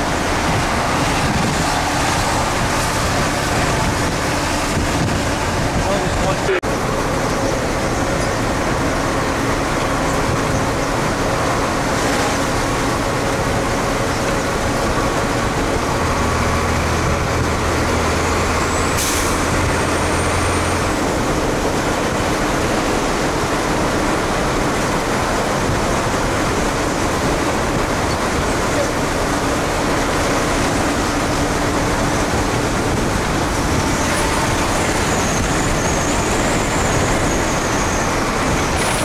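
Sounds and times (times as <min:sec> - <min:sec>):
fire engine driving: 0:00.0 - 0:39.0.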